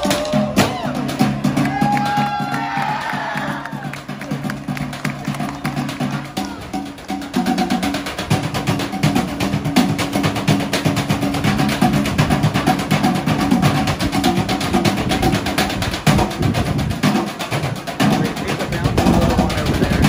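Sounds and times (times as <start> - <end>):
fast steady drumming: 0.0 - 20.0.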